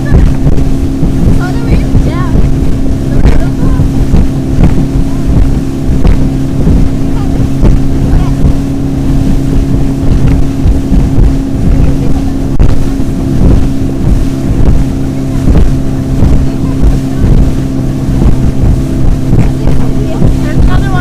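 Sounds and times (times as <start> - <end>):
hull slapping over water: 0.0 - 21.0
motorboat engine running: 0.0 - 21.0
wind buffeting microphone: 0.0 - 21.0.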